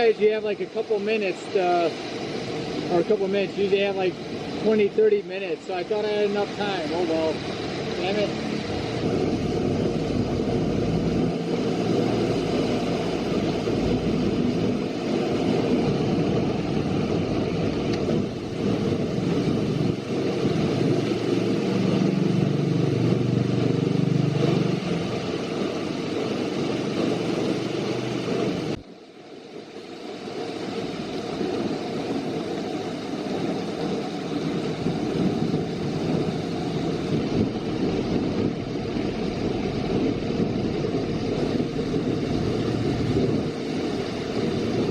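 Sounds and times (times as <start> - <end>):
heavy rain downpour: 0.0 - 44.9
wind gusting over microphone: 0.0 - 44.9.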